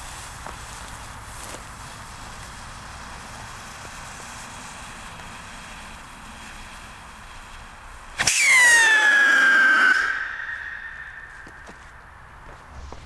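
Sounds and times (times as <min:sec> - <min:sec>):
firework rocket whistling: 0:00.0 - 0:13.0
rocket fuse hissing: 0:00.0 - 0:13.0.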